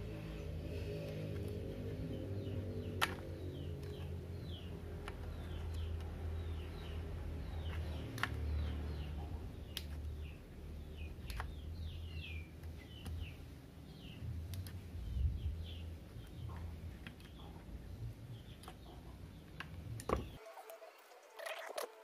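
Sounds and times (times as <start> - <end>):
steady low hum: 0.0 - 20.4
small bird chirping: 0.2 - 20.4.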